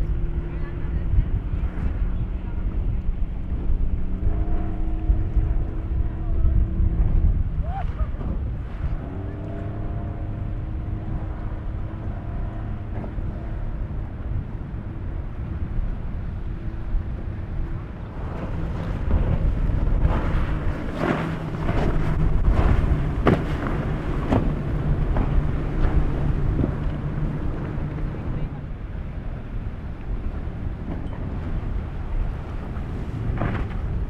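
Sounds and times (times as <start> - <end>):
outboard motor humming: 0.0 - 34.0
wind rumble on microphone: 0.0 - 34.0
rough rushing water noise: 2.3 - 34.0.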